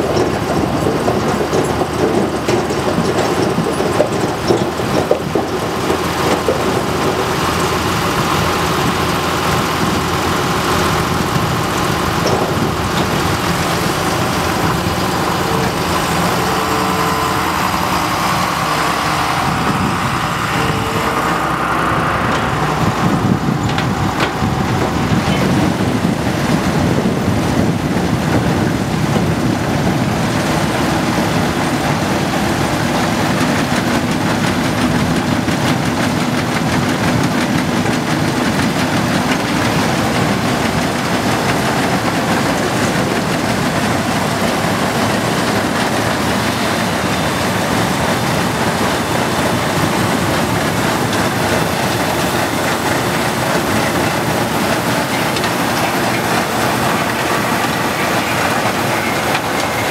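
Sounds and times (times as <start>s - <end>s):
harvester conveyors clattering: 0.0s - 59.9s
tractor diesel engine: 0.0s - 59.9s.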